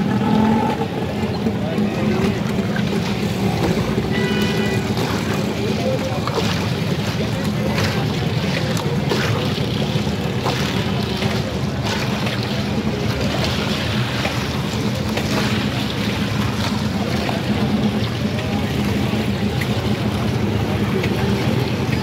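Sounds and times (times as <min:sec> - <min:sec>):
low motor drone: 0:00.0 - 0:22.0.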